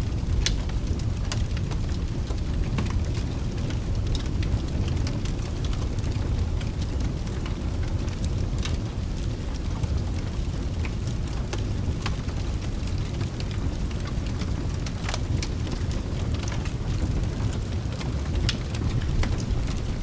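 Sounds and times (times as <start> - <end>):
fireplace fire crackling: 0.0 - 20.0
rain: 0.0 - 20.0.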